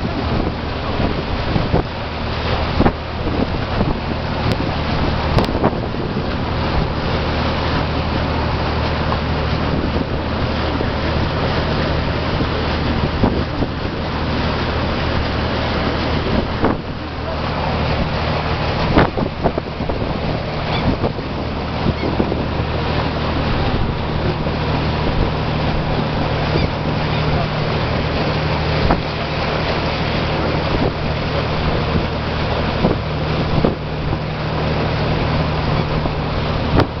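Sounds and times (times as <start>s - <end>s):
boat engine humming: 0.0s - 37.0s
water washing past hull: 0.0s - 37.0s
wind on microphone: 0.0s - 37.0s.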